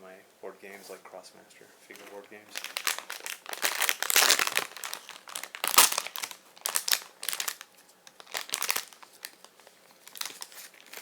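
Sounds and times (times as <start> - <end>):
plastic bag crinkling: 1.9 - 11.0.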